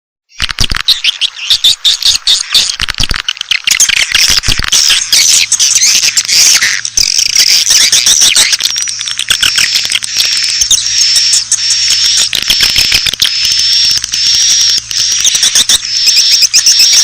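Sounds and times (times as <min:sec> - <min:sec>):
swiftlets twittering and clicking: 0:00.3 - 0:17.0.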